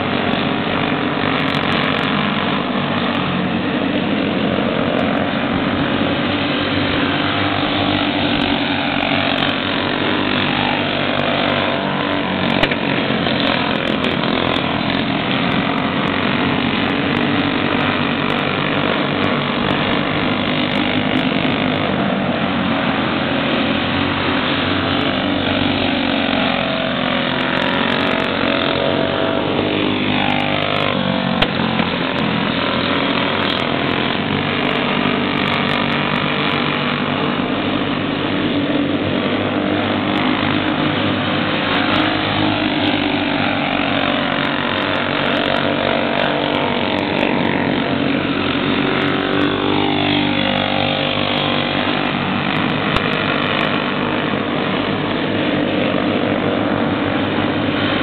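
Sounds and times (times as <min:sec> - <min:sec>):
racing kart engines: 0:00.0 - 0:58.0.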